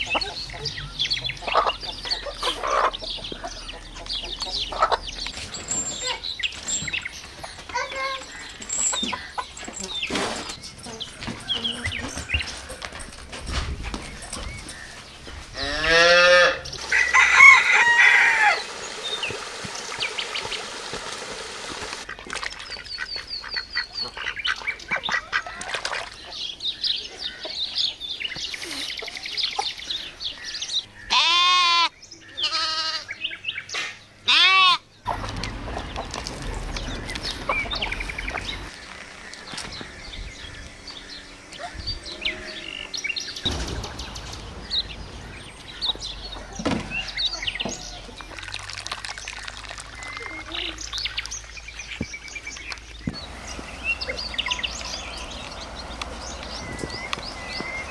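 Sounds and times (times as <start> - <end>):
small birds chirping: 0.0 - 17.0, 18.4 - 31.2, 34.8 - 57.9
chickens calling: 0.0 - 57.9.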